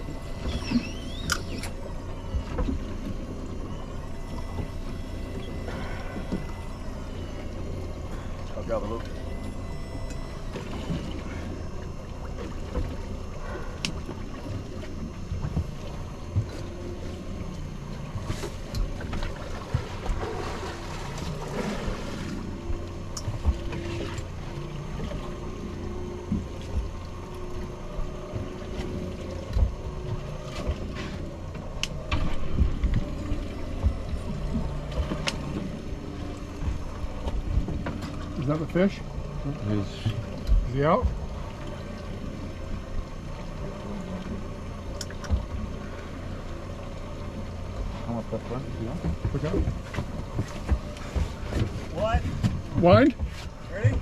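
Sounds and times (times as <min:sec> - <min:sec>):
boat engine rumble: 0:00.0 - 0:54.0.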